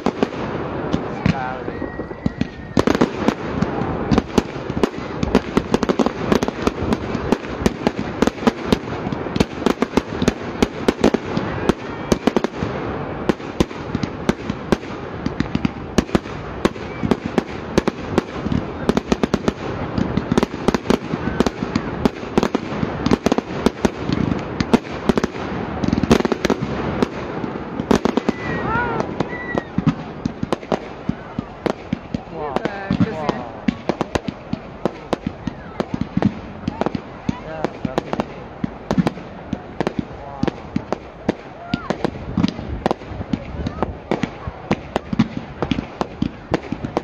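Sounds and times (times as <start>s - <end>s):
fireworks cracks and bangs: 0.0s - 47.0s.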